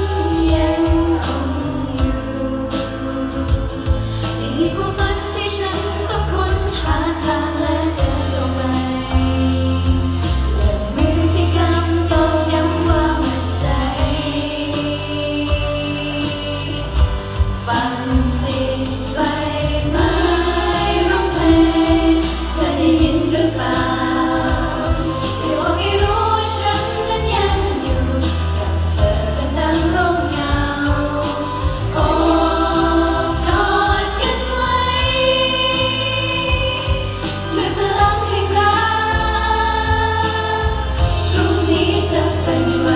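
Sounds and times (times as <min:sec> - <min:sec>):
backing track with bass and beat: 0:00.0 - 0:42.9
women singing pop song: 0:00.0 - 0:42.9.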